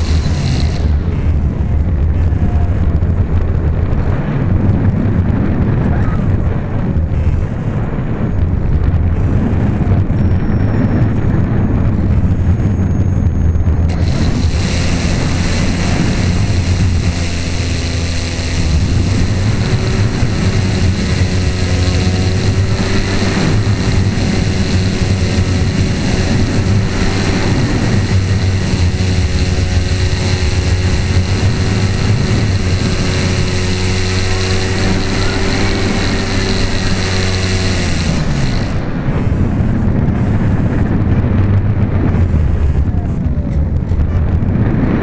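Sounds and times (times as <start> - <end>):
rushing air: 0.0 - 45.0
small propeller motor running: 0.0 - 45.0.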